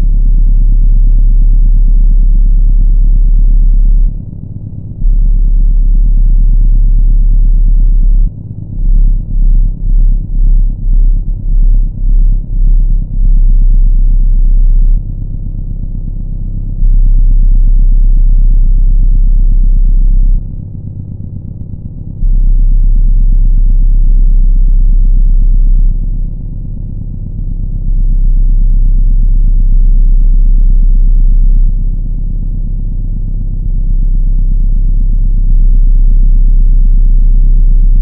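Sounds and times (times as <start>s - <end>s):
deep rumbling drone: 0.0s - 38.0s.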